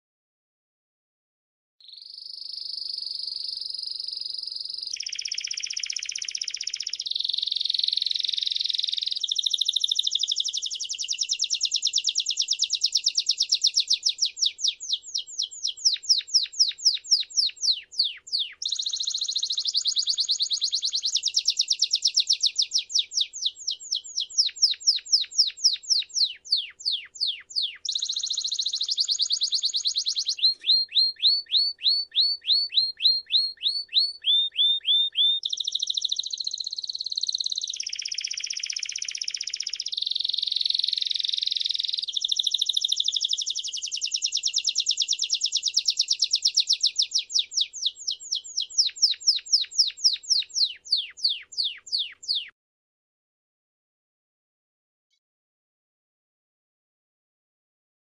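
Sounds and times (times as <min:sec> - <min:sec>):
canary singing: 0:01.8 - 0:52.6.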